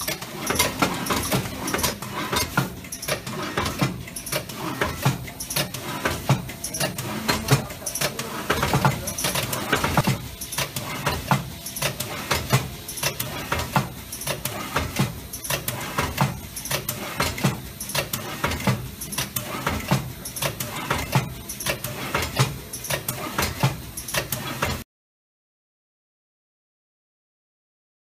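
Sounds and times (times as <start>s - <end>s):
machine parts clicking and clacking: 0.0s - 24.8s
steady mechanical noise: 0.0s - 24.8s.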